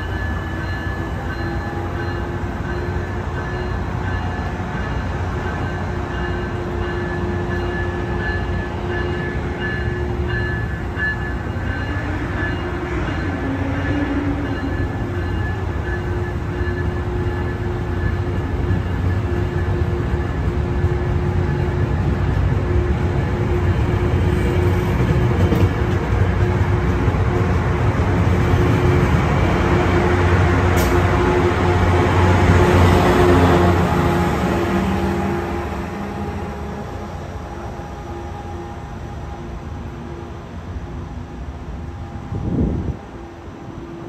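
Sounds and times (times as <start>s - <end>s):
diesel locomotive humming: 0.0s - 44.0s
locomotive whine: 0.0s - 44.0s.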